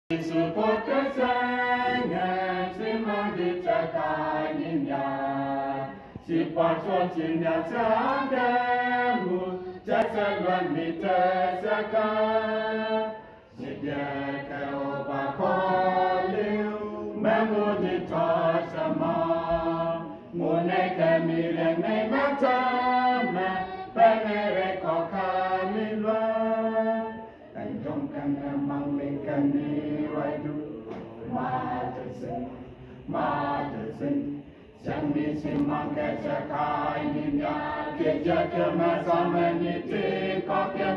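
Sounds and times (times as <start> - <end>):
mixed choir singing in harmony: 0.1 - 40.9.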